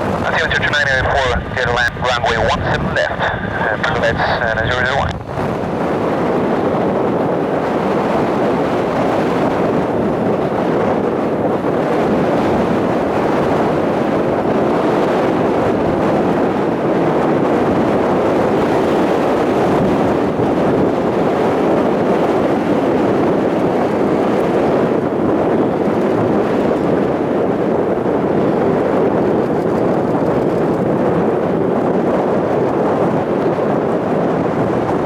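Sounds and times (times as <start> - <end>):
gusty wind on microphone: 0.0 - 35.0.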